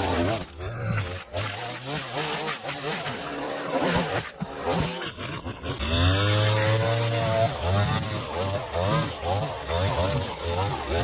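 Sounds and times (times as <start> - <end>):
small gasoline engine revving: 0.0 - 11.0.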